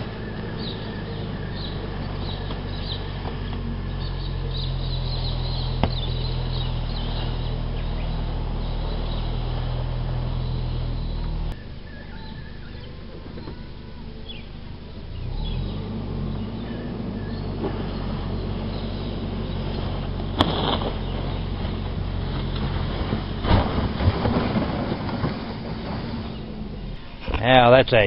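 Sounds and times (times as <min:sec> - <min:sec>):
birds chirping: 0:00.0 - 0:28.0
vehicle engine running: 0:00.0 - 0:28.0.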